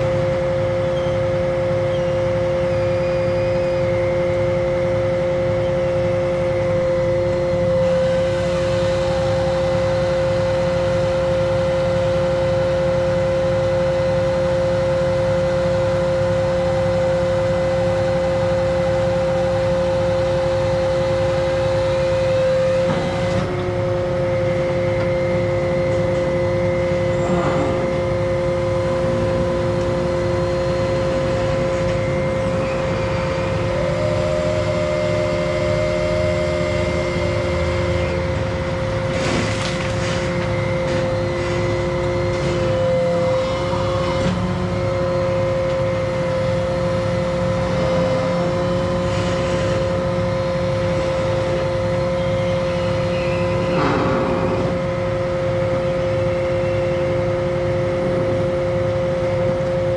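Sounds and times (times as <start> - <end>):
engine rumble: 0.0 - 59.9
high-pitched whine: 0.0 - 59.9.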